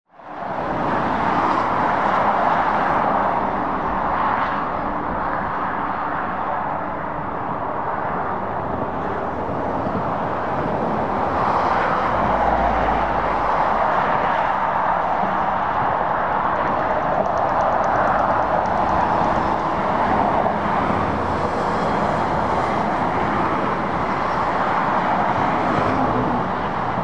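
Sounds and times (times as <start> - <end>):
passing cars: 0.2 - 27.0.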